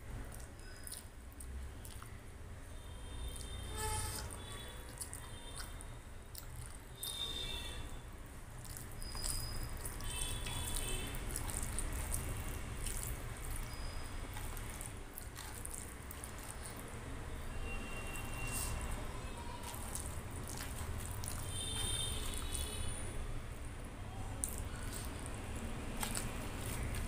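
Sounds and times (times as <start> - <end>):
wet squelching of food: 0.0 - 27.0.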